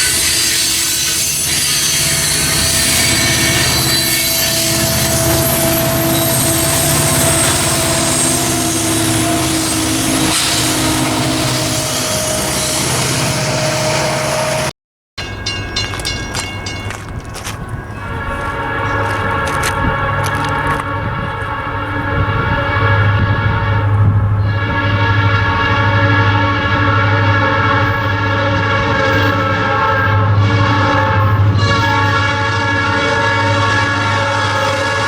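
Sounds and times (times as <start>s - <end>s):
freight train wheels on rails: 0.0s - 35.0s
rapid clicking of train: 0.0s - 35.0s
squealing train wheels: 0.0s - 35.0s.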